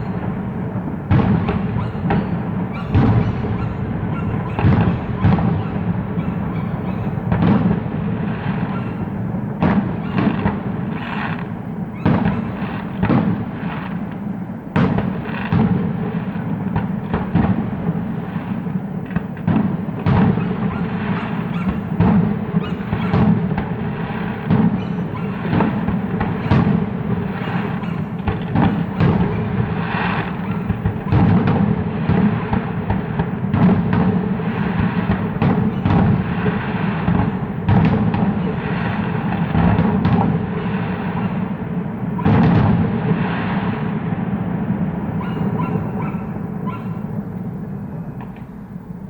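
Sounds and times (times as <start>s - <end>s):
fireworks bursting: 0.0s - 49.0s.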